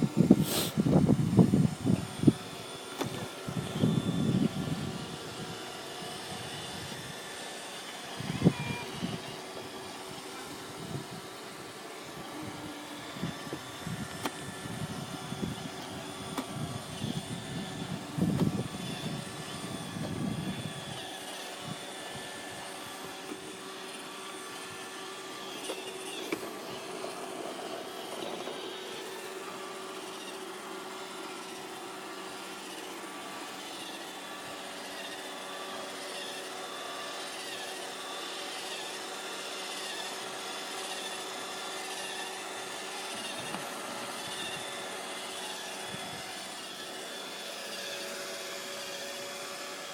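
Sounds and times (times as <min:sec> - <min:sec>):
robot vacuum running: 0:00.0 - 0:49.9.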